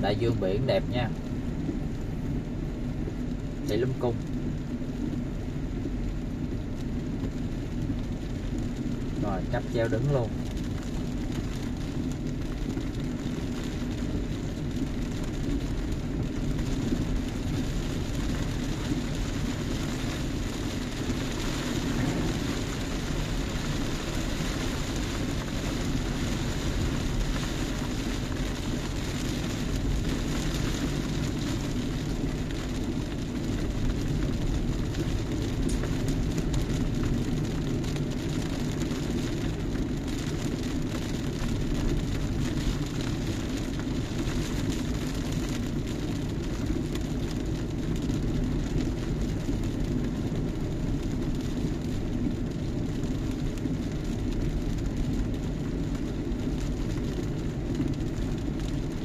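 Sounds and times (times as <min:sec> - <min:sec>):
car engine noise: 0:00.0 - 0:59.0
tyres on wet road: 0:00.0 - 0:59.0.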